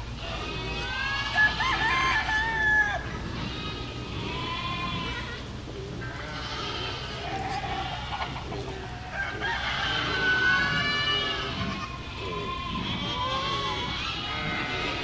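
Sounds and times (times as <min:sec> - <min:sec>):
farm animals calling: 0:00.0 - 0:15.0.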